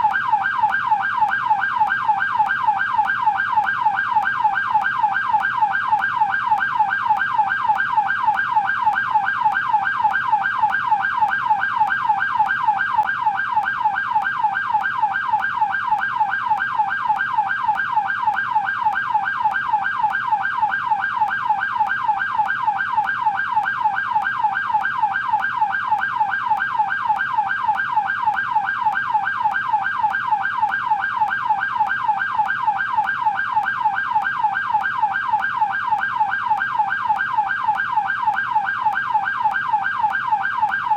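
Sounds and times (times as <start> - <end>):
police car yelp siren: 0.0 - 40.9.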